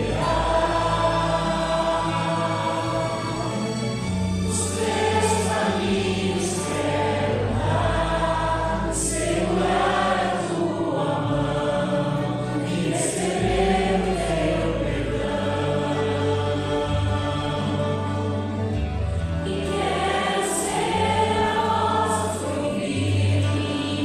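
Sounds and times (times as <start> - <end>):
accompaniment with held bass notes: 0.0 - 24.0
group singing a hymn: 0.0 - 24.0.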